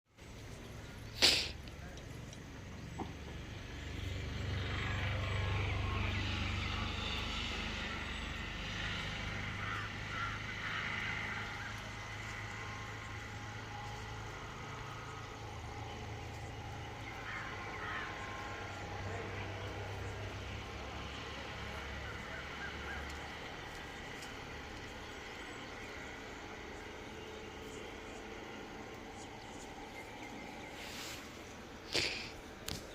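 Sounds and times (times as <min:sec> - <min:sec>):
low engine-like hum: 0:00.2 - 0:32.9.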